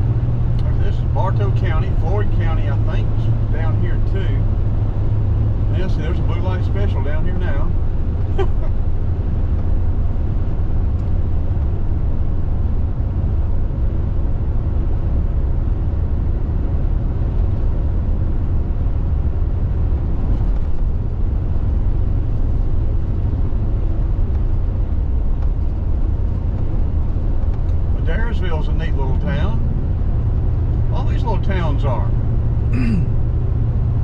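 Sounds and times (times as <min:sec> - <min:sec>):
car road rumble: 0:00.0 - 0:34.0.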